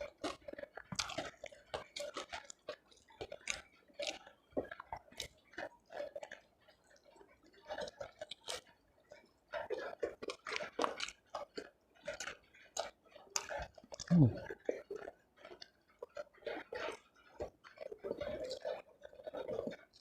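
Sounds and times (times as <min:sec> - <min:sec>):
food chewing with wet crunches: 0:00.0 - 0:20.0.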